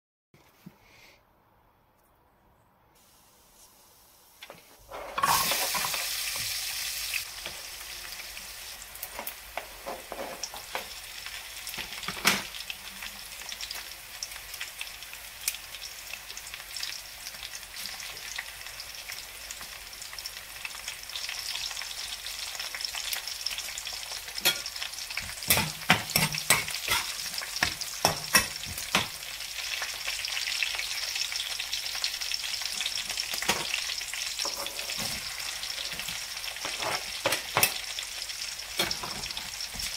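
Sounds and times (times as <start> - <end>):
garlic and chillies sizzling in oil: 3.0 - 39.9.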